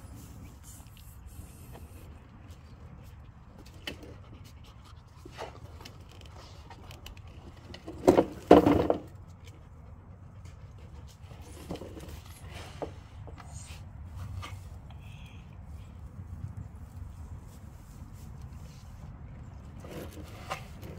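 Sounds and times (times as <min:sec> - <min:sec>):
low steady rumble: 0:00.0 - 0:20.9.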